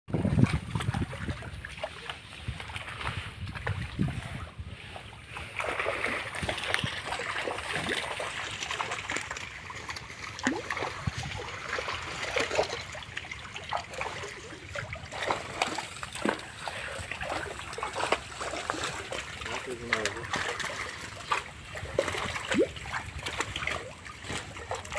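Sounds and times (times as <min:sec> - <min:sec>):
shallow water sloshing and trickling: 0:00.1 - 0:24.9
small water splashes: 0:00.1 - 0:24.9.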